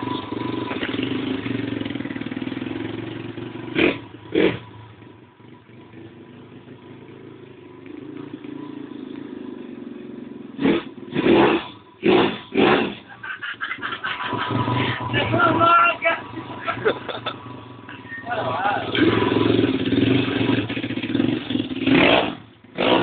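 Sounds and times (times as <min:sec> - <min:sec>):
pit bike engine running: 0:00.0 - 0:23.0.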